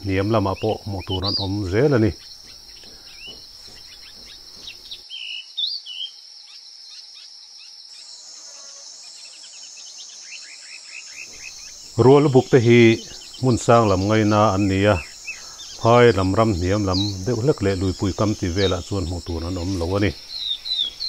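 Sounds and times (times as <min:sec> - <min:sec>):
rising bird chirps: 0:00.0 - 0:06.2, 0:09.3 - 0:21.0
high-pitched insect trill: 0:00.0 - 0:21.0
wavering high insect buzz: 0:00.0 - 0:21.0.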